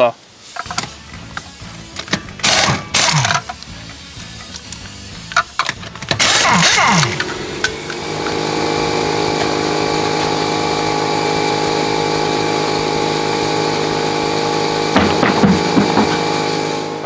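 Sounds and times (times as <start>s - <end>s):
impact wrench buzzing: 0.5s - 17.0s.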